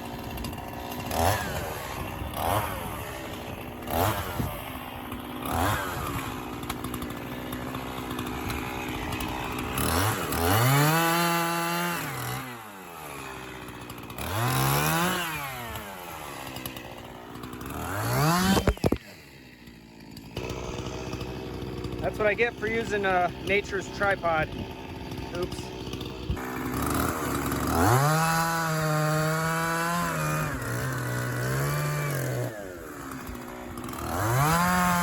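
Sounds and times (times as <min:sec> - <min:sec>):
chainsaw revving and idling: 0:00.0 - 0:35.0.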